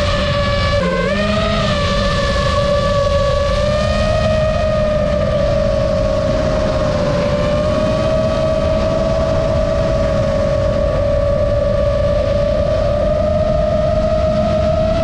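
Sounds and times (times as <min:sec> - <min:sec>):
drone motors whining: 0:00.0 - 0:15.0
low rushing noise: 0:00.0 - 0:15.0.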